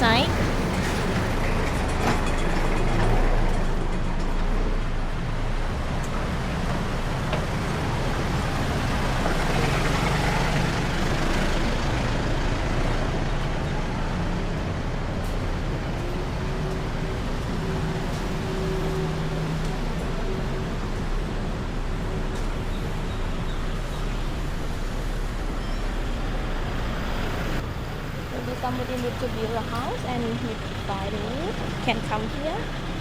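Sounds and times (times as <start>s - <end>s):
steady engine hum: 0.0s - 33.0s
vehicles passing: 0.0s - 33.0s.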